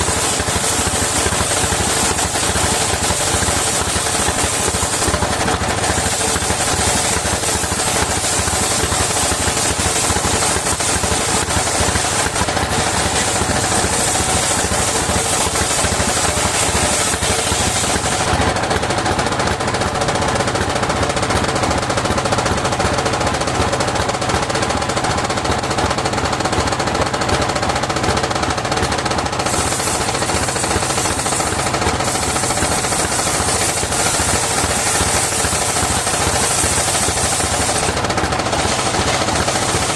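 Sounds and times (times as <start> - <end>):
saw mill engine chugging: 0.0 - 39.9.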